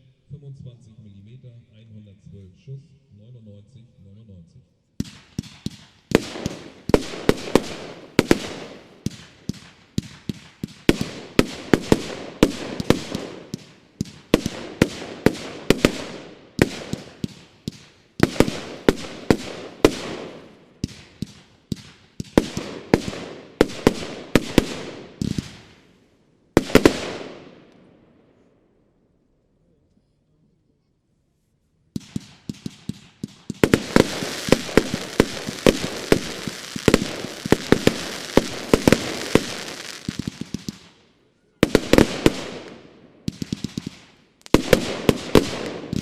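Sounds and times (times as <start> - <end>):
firework shots and bursts: 5.0 - 27.8, 31.9 - 46.0.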